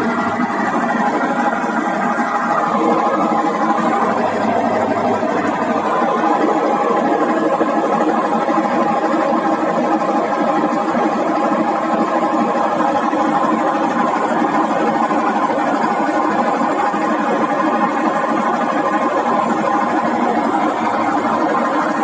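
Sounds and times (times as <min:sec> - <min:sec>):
washing machine motor humming: 0:00.0 - 0:22.0.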